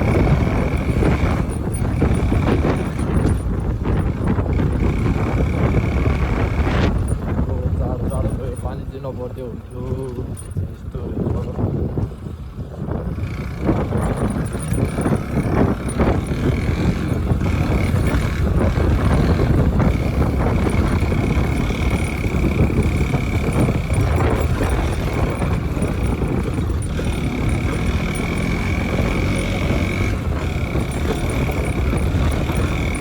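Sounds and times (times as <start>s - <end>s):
wind rushing noise: 0.0s - 9.6s, 10.2s - 33.0s
motorcycle engine running: 0.0s - 33.0s.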